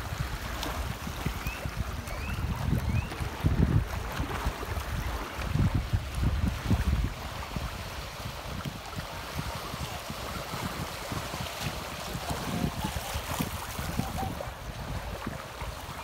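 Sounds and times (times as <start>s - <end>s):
sea surf washing onto beach: 0.0s - 16.0s
wind buffeting microphone: 0.0s - 16.0s.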